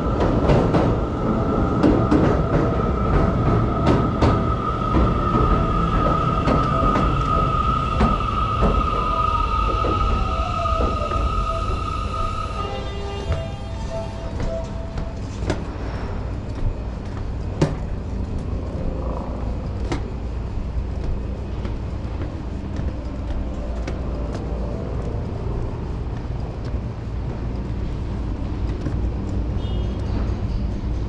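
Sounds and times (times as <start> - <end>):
train platform rumble: 0.0 - 31.0.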